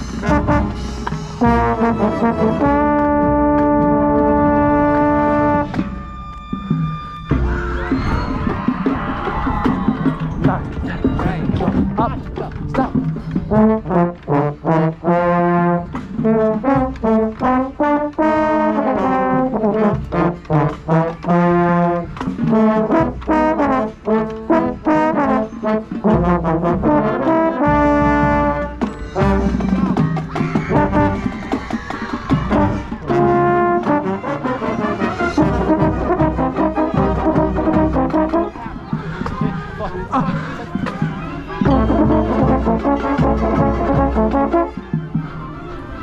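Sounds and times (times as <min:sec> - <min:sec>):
brass chords: 0:00.0 - 0:07.9, 0:10.1 - 0:31.5, 0:32.3 - 0:46.0
drums: 0:00.0 - 0:46.0
marching band playing: 0:00.0 - 0:46.0.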